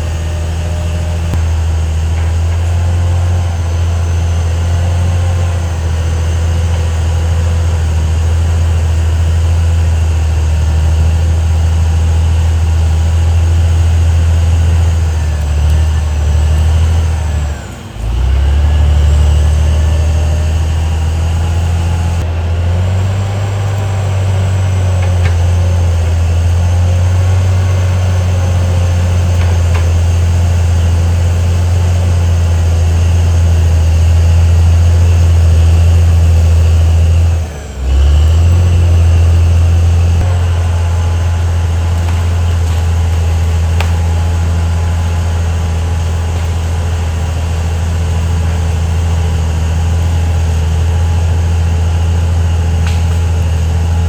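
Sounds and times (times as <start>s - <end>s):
bulldozer diesel engine droning: 0.0s - 54.0s.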